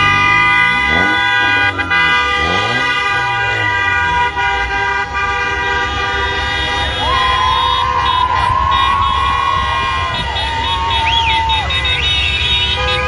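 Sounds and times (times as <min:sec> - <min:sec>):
engines rumbling: 0:00.0 - 0:13.0
vehicle horns honking: 0:00.0 - 0:13.0.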